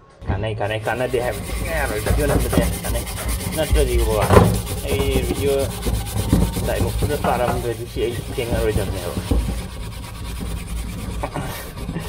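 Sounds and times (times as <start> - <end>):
metal on metal squeaks: 0.6 - 12.0
steel wool scrubbing metal: 0.6 - 12.0.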